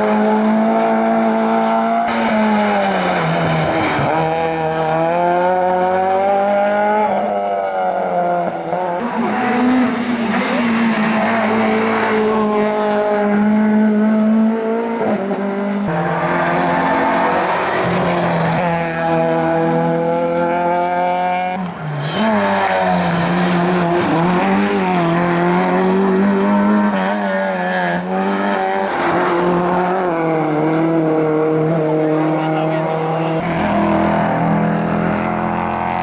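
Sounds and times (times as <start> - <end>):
race car engine at high revs: 0.0 - 36.0.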